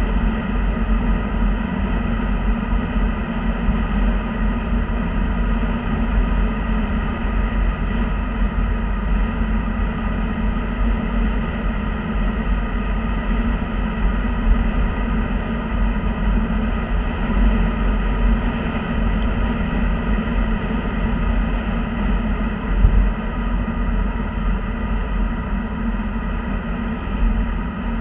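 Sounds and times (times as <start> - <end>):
car road noise drone: 0.0 - 28.0.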